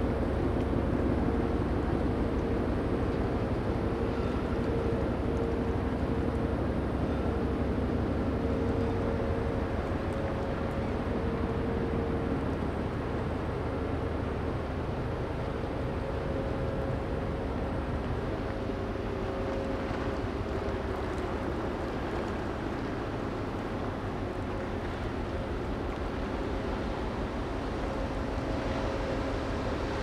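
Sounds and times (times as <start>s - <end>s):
faint steady hum: 0.0s - 30.0s
low rumble of ship engines: 0.0s - 30.0s.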